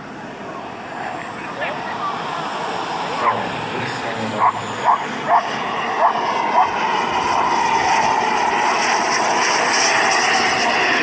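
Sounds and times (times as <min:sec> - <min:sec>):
high turbine whine: 0:00.0 - 0:11.0
model jet engine rushing: 0:00.0 - 0:11.0.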